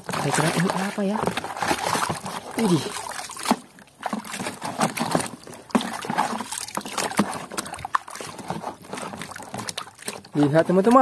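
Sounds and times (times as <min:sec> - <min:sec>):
water sloshing and splashing in basin: 0:00.0 - 0:11.0.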